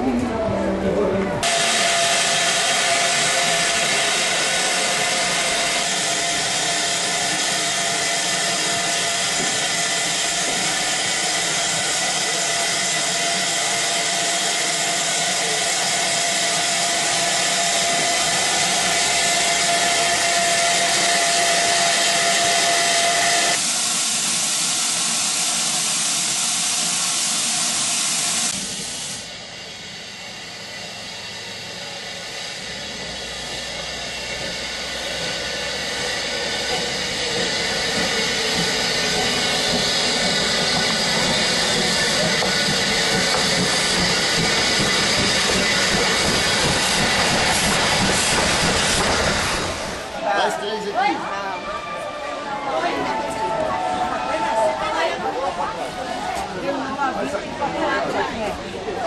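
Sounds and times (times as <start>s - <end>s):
steam locomotive hissing: 1.4s - 59.0s.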